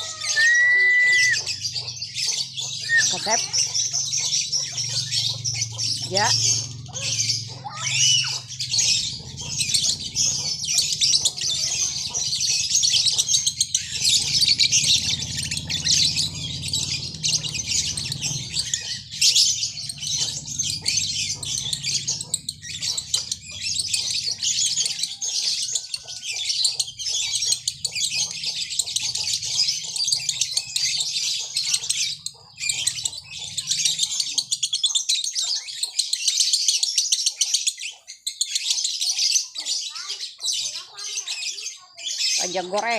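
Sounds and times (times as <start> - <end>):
lovebird chattering song: 0.0 - 42.9.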